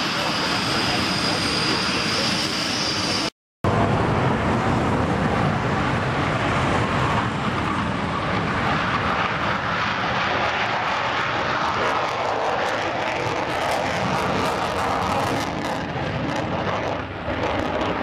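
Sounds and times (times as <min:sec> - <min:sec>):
jet engines roaring on take-off: 0:00.0 - 0:18.0.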